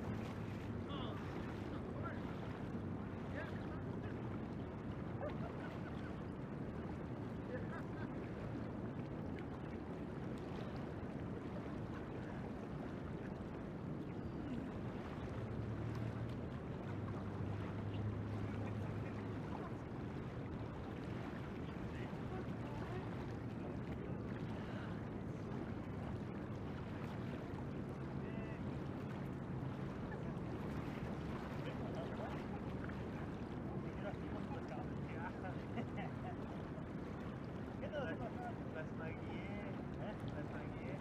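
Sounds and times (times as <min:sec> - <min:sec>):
low hum: 0:00.0 - 0:38.3
river water flowing: 0:00.0 - 0:41.0.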